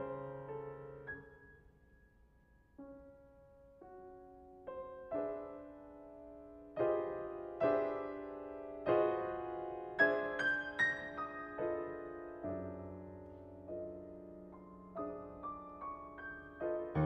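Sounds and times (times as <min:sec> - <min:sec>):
soft grand piano: 0:00.0 - 0:17.0.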